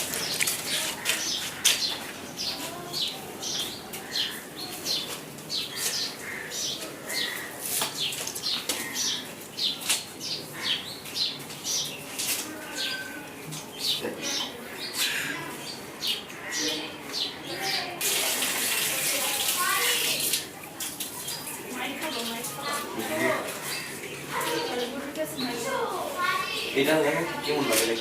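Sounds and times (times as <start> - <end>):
small birds chirping: 0.0 - 18.1, 18.7 - 28.0.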